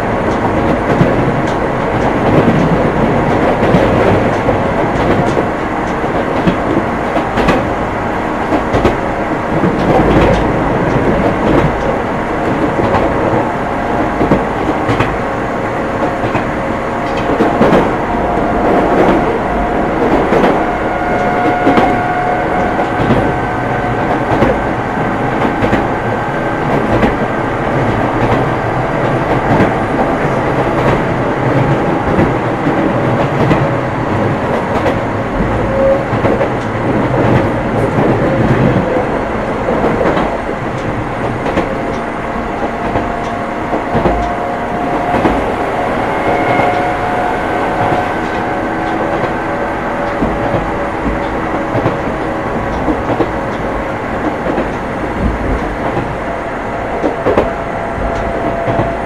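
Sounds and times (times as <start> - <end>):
train wheels rumbling on rail: 0.0 - 59.0
rail-joint clicks: 0.2 - 59.0.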